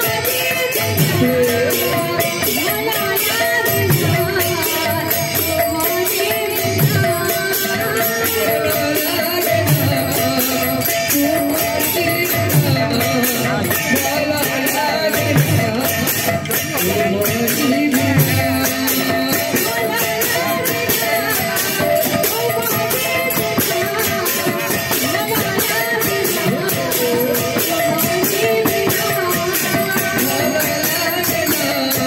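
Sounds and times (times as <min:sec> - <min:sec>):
hand cymbals clashing: 0:00.0 - 0:32.0.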